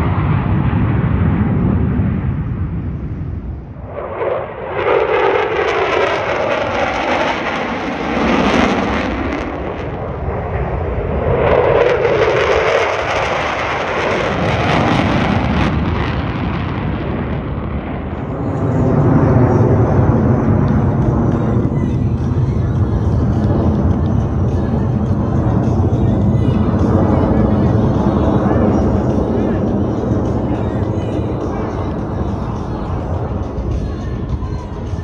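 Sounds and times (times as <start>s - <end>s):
fighter jets flying past: 0.0s - 35.0s.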